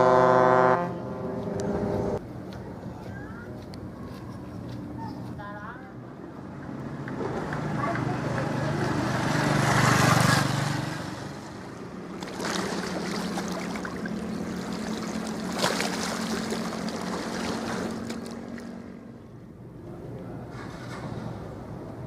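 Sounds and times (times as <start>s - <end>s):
low ship engine hum: 0.0s - 9.3s, 10.7s - 22.0s.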